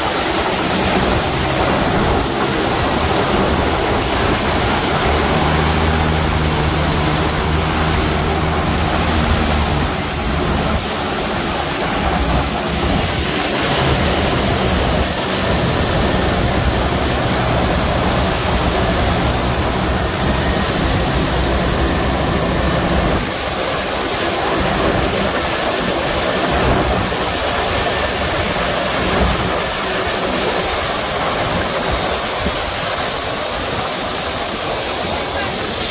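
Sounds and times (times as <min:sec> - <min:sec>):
high turbine whine: 0:00.0 - 0:35.9
turboprop engines low drone: 0:00.0 - 0:35.9
wind and water rushing: 0:00.0 - 0:35.9.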